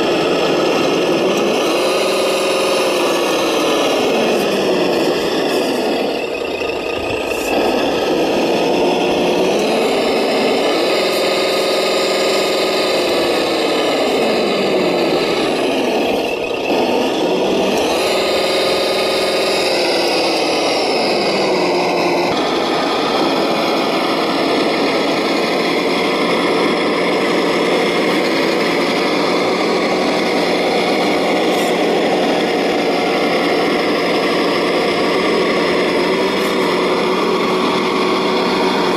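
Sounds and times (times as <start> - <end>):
toy tractor motor humming: 0.0 - 38.9.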